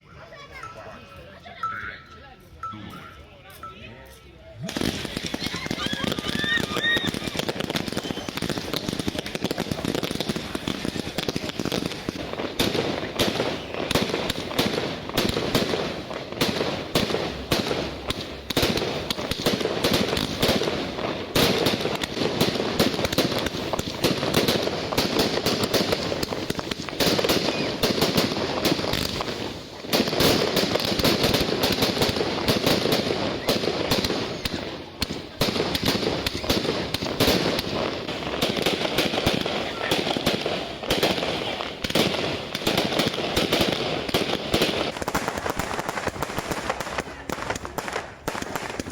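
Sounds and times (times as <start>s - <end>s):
fireworks bursting: 4.5s - 48.9s.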